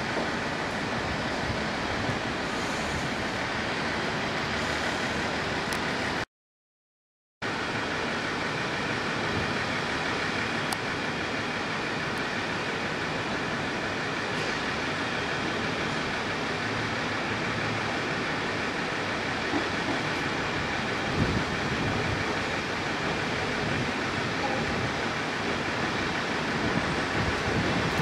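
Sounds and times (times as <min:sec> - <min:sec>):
diesel railcar rumbling: 0:00.0 - 0:06.2, 0:07.4 - 0:28.0.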